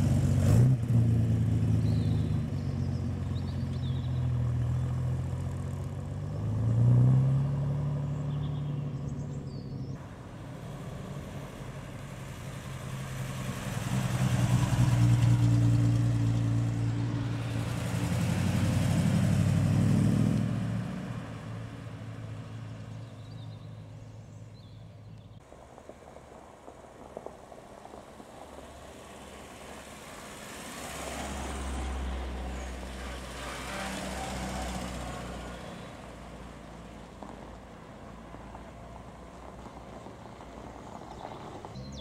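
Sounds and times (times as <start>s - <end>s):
car engine driving past: 0.0s - 24.8s, 27.9s - 42.0s.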